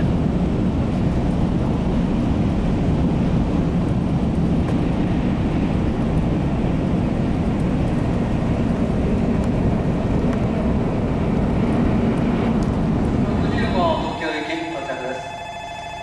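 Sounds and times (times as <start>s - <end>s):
train ride rumble and hiss: 0.0s - 16.0s.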